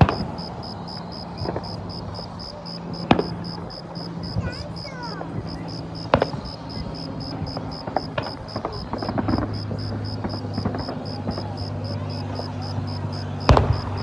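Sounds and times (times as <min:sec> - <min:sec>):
distant fireworks popping and crackling: 0:00.0 - 0:14.0
crickets chirping: 0:00.1 - 0:14.0.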